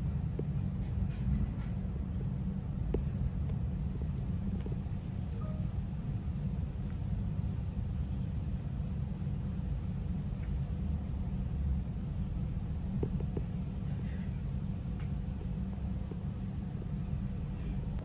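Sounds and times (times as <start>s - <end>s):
faint steady hum: 0.0s - 18.0s
train interior rumble: 0.0s - 18.0s.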